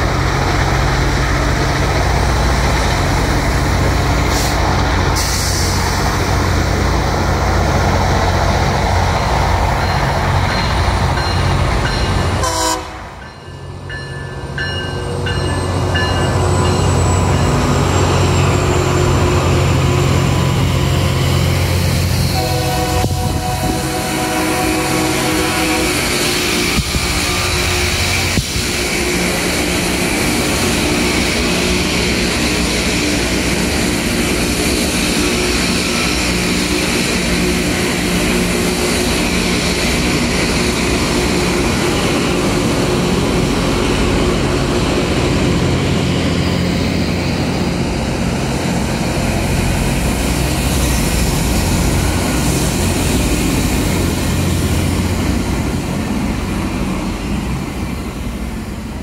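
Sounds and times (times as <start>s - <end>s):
rail grinder mechanical drone: 0.0s - 59.0s.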